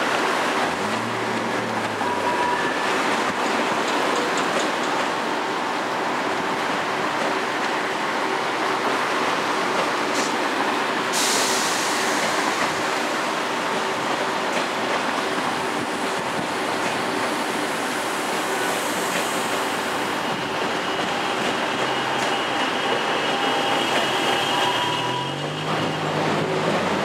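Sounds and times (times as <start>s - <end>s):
train wheels rumbling: 0.0s - 5.5s, 8.8s - 27.0s.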